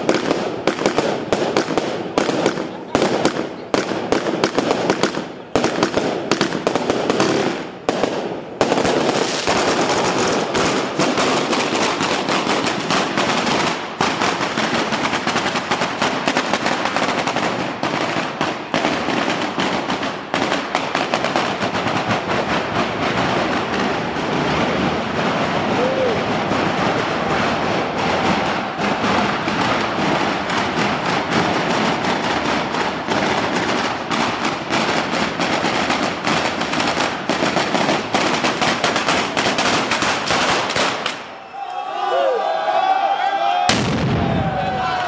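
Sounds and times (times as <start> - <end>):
firecrackers exploding: 0.0 - 41.4, 43.7 - 45.0.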